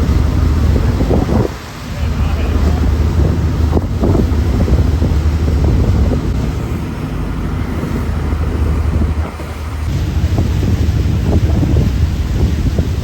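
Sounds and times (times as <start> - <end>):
boat engine droning: 0.0 - 13.0
wind buffeting microphone: 0.0 - 13.0.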